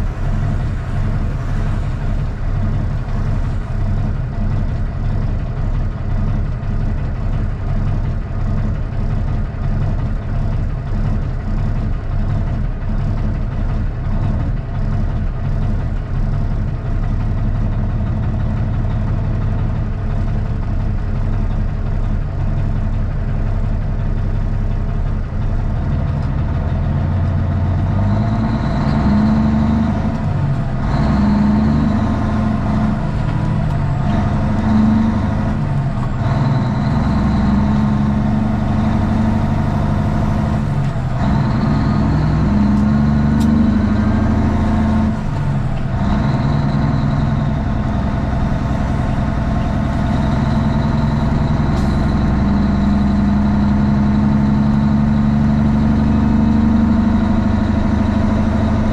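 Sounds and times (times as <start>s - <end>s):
diesel truck engine from cab: 0.0s - 58.9s.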